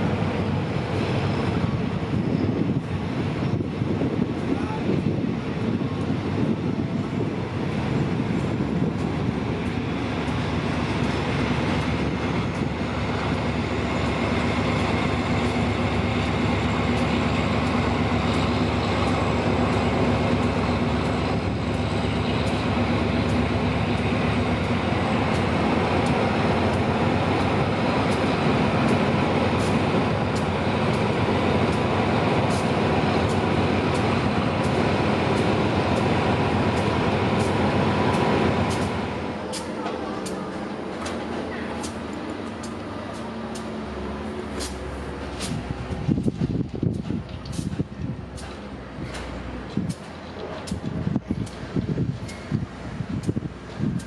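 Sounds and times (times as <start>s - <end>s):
train rumbling past: 0.0s - 54.0s
wheels clicking over rail joints: 8.3s - 54.0s.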